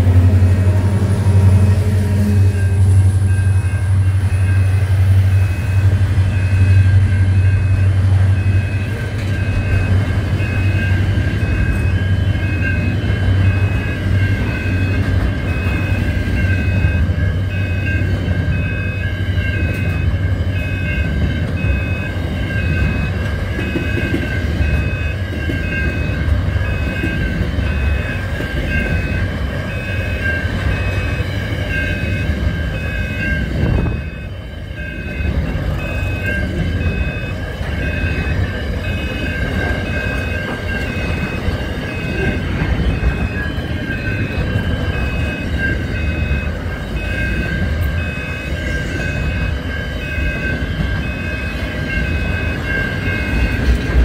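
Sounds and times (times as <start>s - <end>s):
diesel locomotive engines: 0.0s - 54.0s
level crossing warning bell: 0.0s - 54.0s
freight wagons rumbling and clattering: 5.5s - 54.0s.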